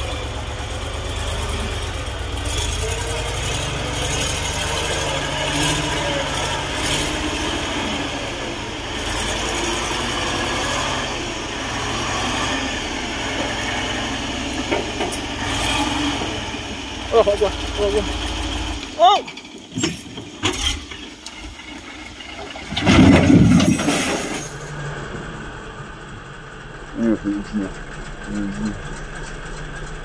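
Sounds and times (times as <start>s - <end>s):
truck engine running hard: 0.0s - 30.0s.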